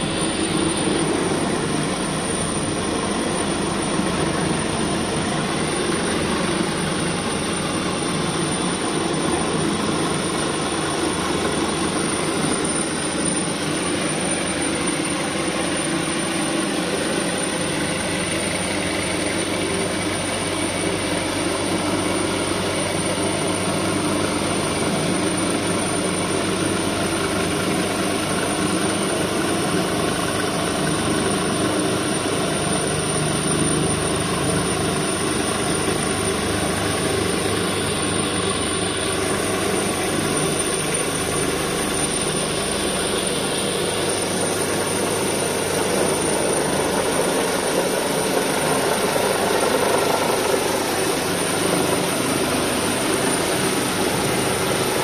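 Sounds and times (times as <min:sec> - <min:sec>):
helicopter flying overhead: 0:00.0 - 0:55.0.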